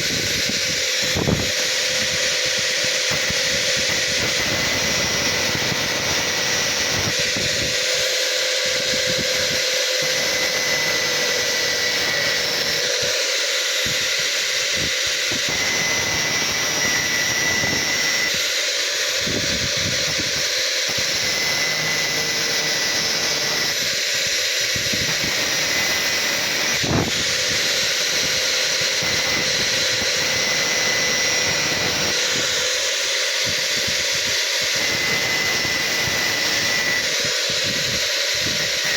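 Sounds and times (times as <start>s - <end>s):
angle grinder cutting metal: 0.0s - 38.9s.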